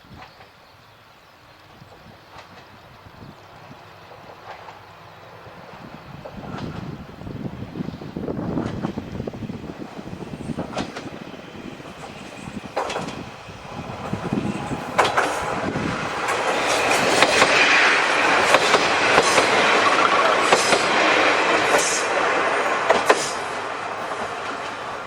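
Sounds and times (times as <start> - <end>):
train running rumble: 0.1 - 25.0
train wheels clacking: 3.7 - 25.0.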